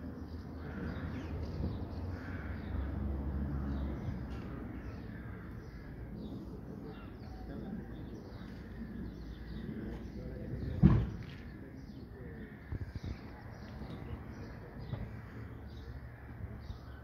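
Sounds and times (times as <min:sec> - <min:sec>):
birds cawing: 0:00.5 - 0:10.1, 0:11.6 - 0:17.0.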